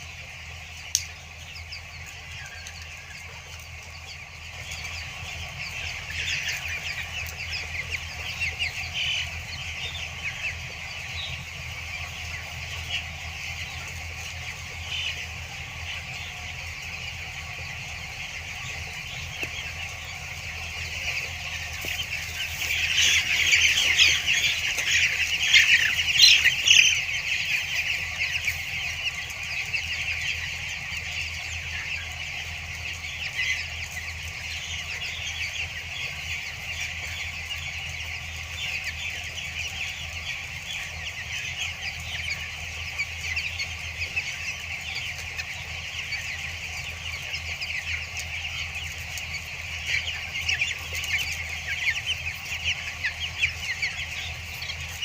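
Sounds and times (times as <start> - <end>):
chicks cheeping: 0.0 - 55.0.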